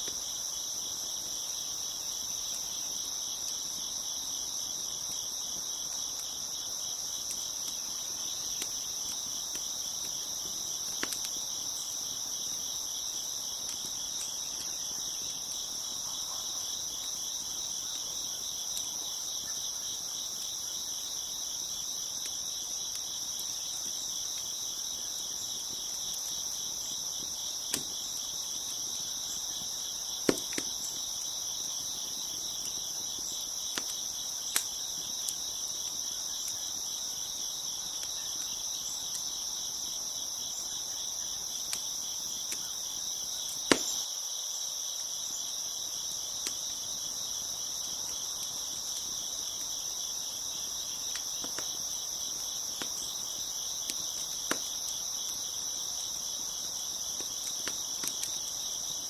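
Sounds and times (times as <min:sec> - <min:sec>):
wood fire crackling: 0:00.0 - 0:44.0, 0:45.2 - 0:59.0
crickets chirping: 0:00.0 - 0:59.0.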